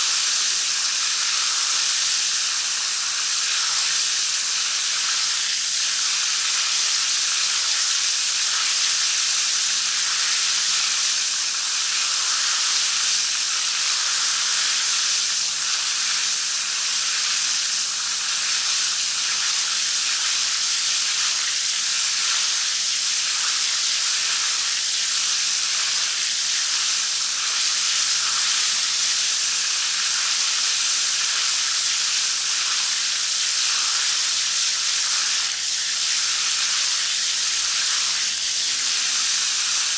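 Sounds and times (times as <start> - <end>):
shower spraying water: 0.0 - 39.9.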